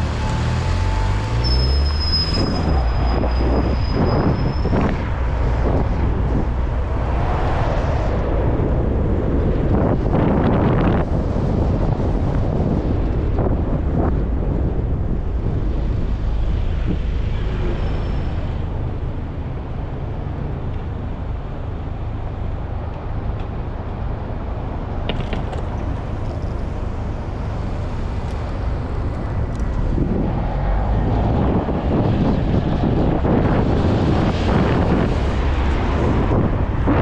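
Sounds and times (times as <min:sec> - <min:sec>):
road traffic noise: 0:00.0 - 0:37.0
wind rumble on microphone: 0:00.0 - 0:37.0.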